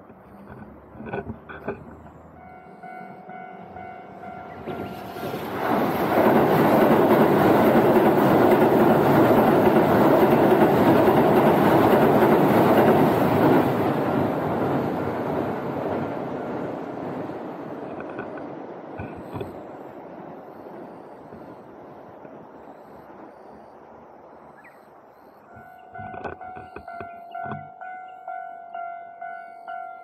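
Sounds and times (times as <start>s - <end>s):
train rumbling over steel bridge: 0.0s - 30.0s.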